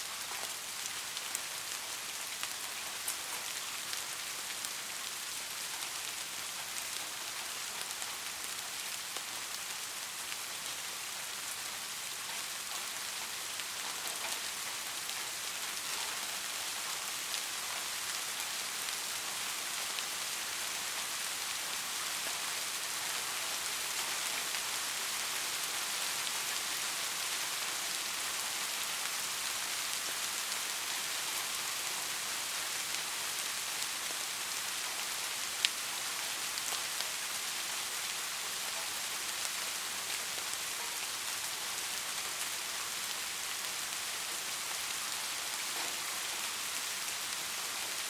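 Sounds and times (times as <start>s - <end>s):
gentle rain falling: 0.0s - 48.0s.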